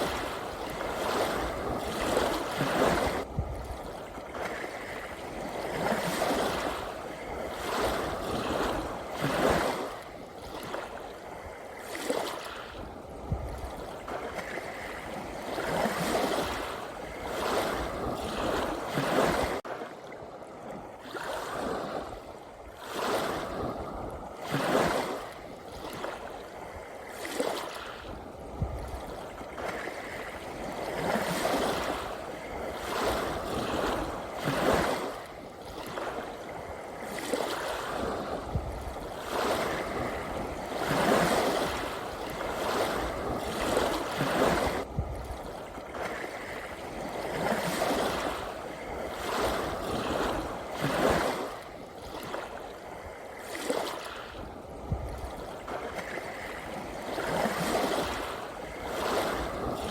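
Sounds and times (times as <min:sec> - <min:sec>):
sea waves washing in: 0:00.0 - 0:59.9.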